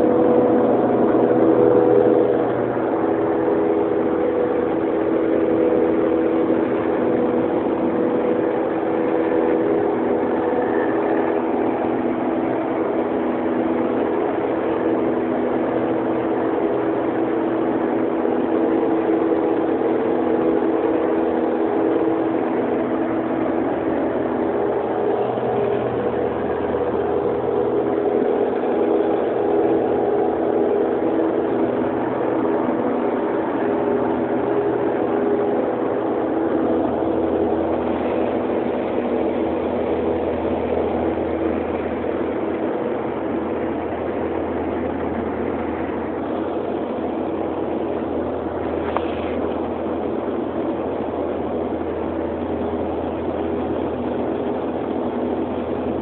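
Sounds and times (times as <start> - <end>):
aircraft engines and propellers droning: 0.0 - 56.0.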